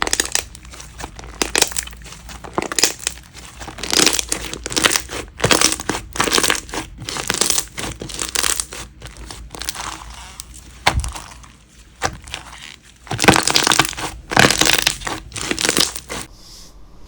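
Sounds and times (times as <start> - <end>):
slime crackling pops: 0.0 - 10.2, 12.0 - 16.3.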